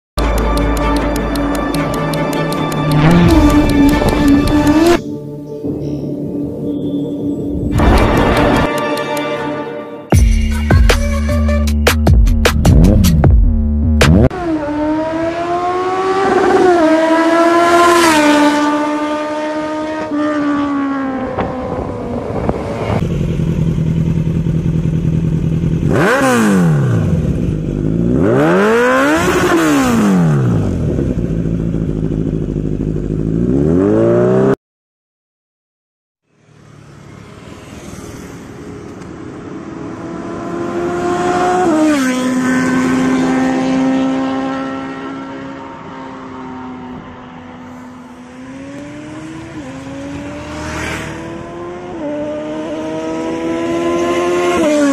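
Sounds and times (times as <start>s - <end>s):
motorcycle engine revving: 0.2s - 5.0s, 12.6s - 34.6s, 36.4s - 54.9s.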